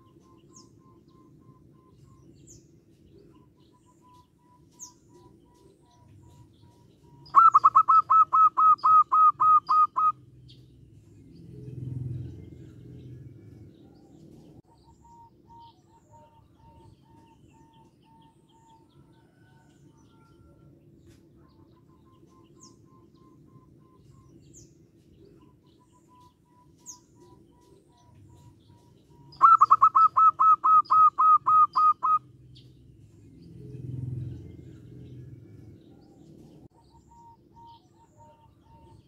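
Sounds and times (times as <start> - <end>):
dove calling: 0.0 - 39.0.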